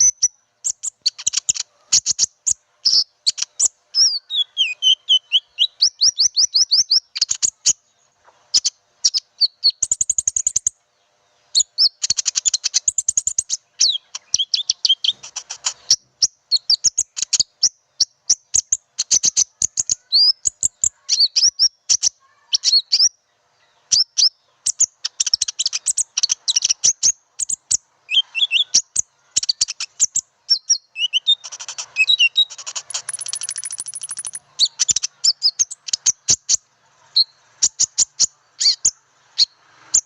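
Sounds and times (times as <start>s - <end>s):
high-pitched bird chirps and trills: 0.0s - 40.0s.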